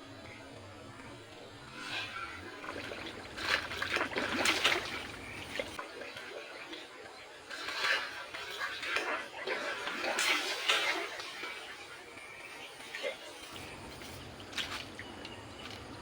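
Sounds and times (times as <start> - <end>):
water splashing and sloshing: 0.1 - 16.0.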